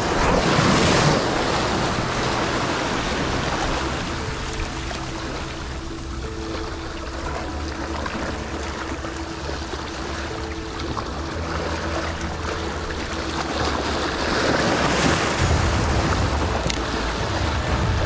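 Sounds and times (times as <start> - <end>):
sea waves breaking on rocks: 0.0 - 18.0.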